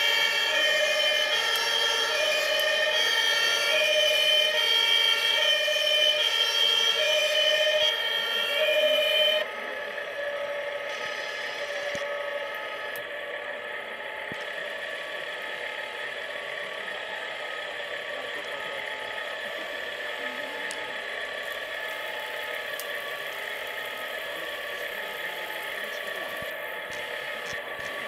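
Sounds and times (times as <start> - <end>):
toy trucks droning and whirring: 0.0 - 28.0.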